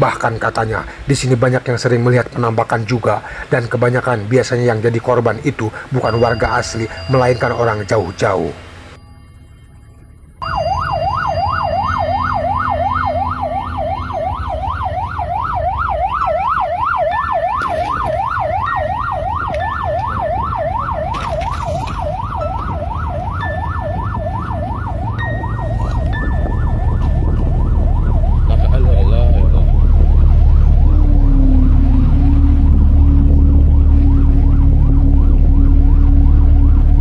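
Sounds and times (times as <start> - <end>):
low rumble of road traffic: 0.0 - 37.0
emergency siren yelping: 6.0 - 9.0, 9.9 - 37.0.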